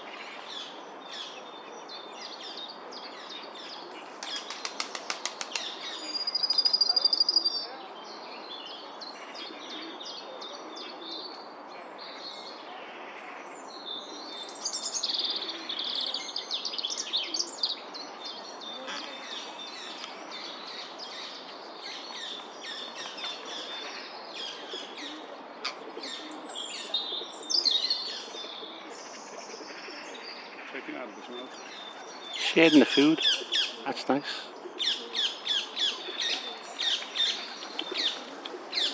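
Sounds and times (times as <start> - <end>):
small birds chirping: 0.4 - 12.6, 13.4 - 38.9.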